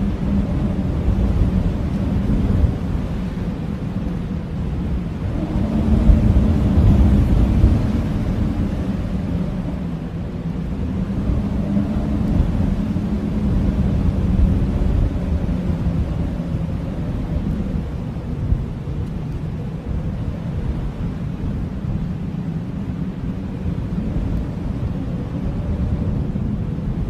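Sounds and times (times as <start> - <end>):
blizzard wind howling: 0.0 - 27.0.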